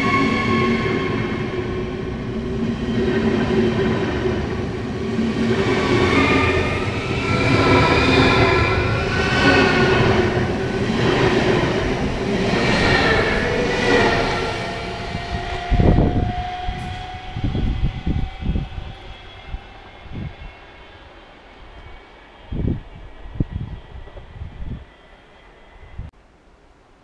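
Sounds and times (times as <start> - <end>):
electric train passing: 0.0 - 26.1.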